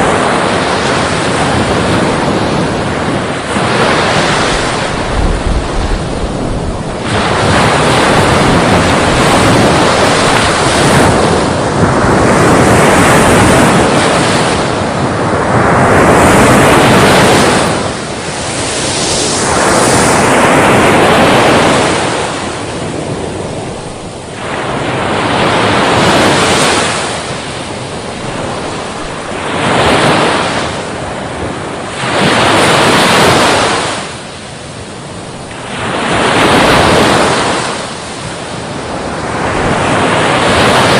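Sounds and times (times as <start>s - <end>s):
sea waves breaking on shore: 0.0s - 40.9s.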